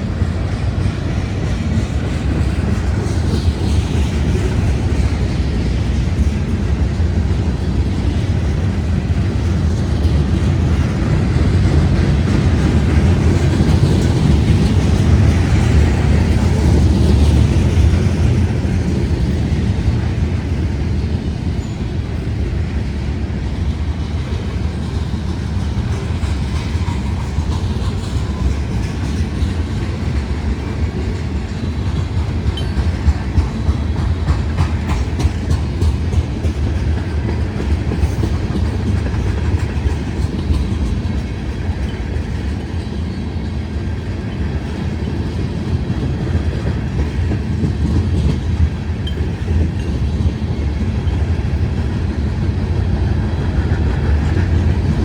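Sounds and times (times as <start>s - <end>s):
freight train wheels clacking: 0.0s - 55.0s.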